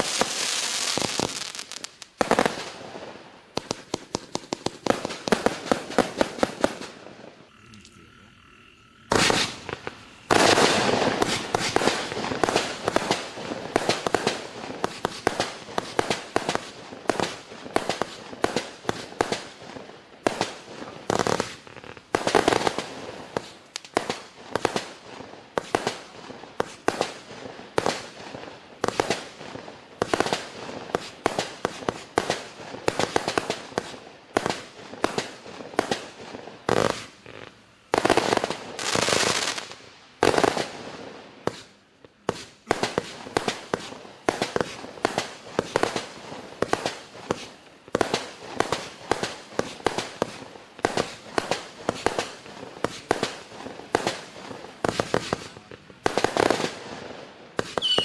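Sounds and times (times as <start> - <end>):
firework bangs and crackle: 0.0 - 7.6, 9.0 - 58.0.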